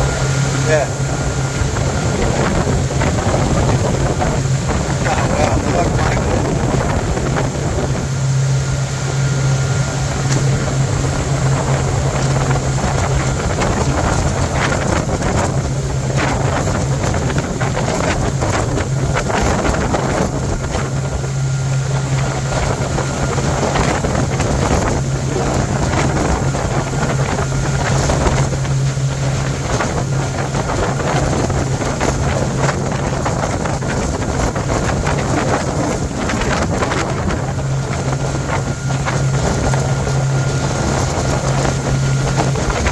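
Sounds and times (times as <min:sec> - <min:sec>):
motorboat engine drone: 0:00.0 - 0:42.9
wind buffeting microphone: 0:00.0 - 0:42.9.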